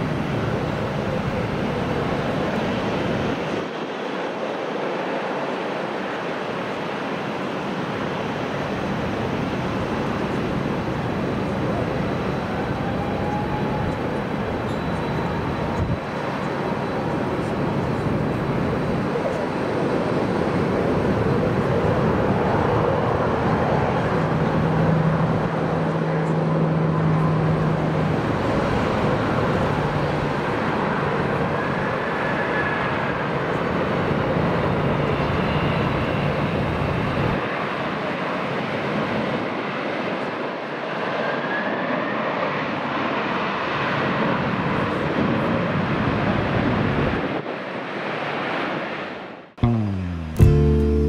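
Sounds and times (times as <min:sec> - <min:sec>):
jet engines running: 0:00.0 - 0:49.2.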